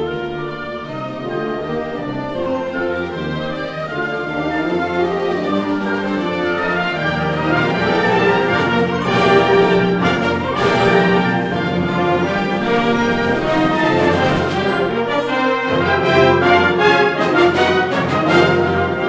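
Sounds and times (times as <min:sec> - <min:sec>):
wind band playing chords: 0:00.0 - 0:19.0.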